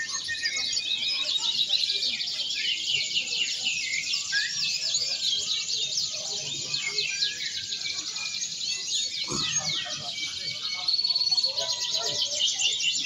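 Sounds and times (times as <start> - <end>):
canaries singing trills: 0.0 - 13.0.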